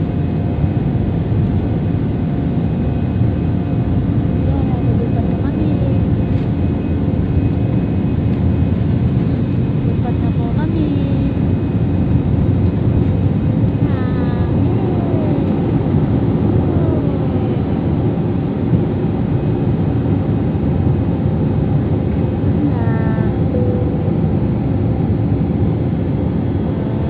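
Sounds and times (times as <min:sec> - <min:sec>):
airplane cabin engine noise: 0:00.0 - 0:27.0.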